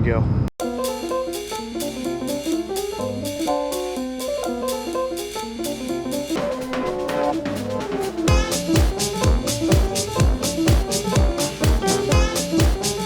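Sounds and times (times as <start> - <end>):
instrumental keyboard music: 0.6 - 13.0
drum beat: 0.7 - 13.0.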